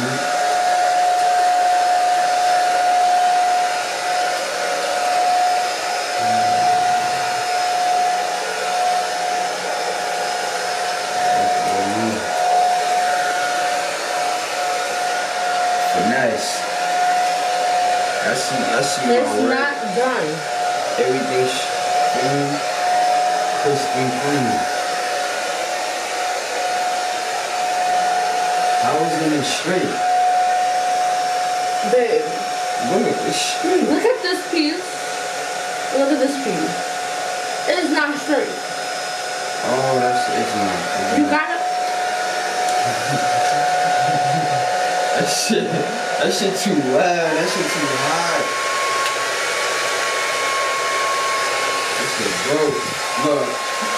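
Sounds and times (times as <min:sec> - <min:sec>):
hair dryer running: 0:00.0 - 0:53.9.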